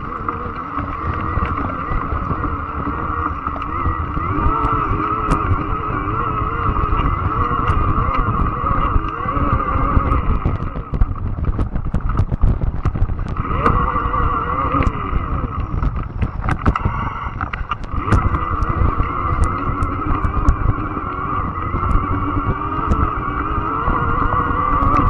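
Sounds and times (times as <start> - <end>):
electric bike motor and tyres humming: 0.0 - 25.0
heavy low rumble: 0.0 - 25.0.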